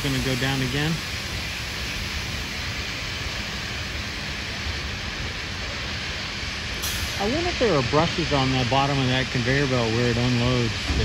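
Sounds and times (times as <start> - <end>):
machine rushing hiss: 0.0 - 11.0.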